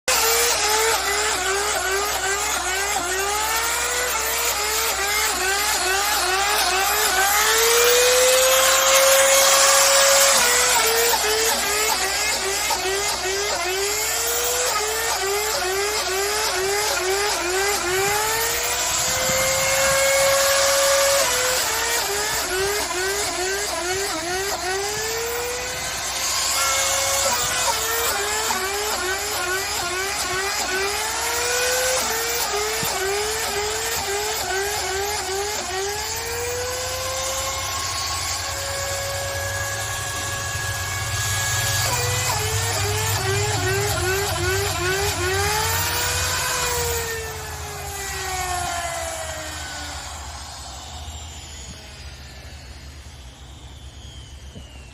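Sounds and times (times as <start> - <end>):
power drill boring into wood: 0.0 - 54.9.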